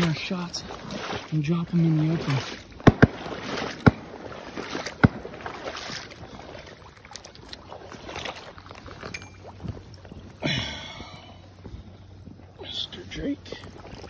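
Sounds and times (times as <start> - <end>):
rush of water: 0.0 - 14.0
sloshing steps in water: 0.0 - 14.0.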